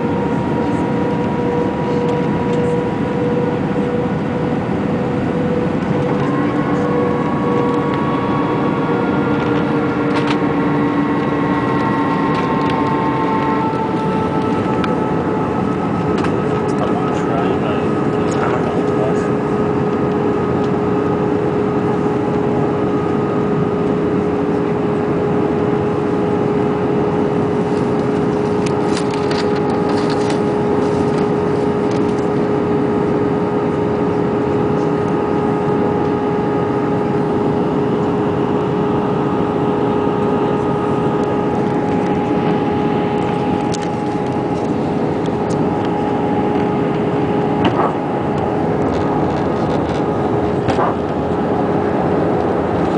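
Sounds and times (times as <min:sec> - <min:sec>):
constant hum: 0:00.0 - 0:52.9
engine and airflow rush: 0:00.0 - 0:52.9.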